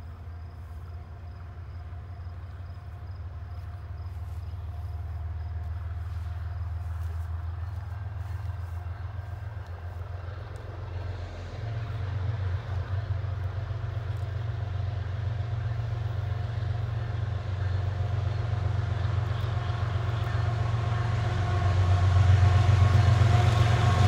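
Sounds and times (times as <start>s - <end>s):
crickets chirping: 0.0s - 24.0s
diesel locomotive rumble: 0.0s - 24.0s.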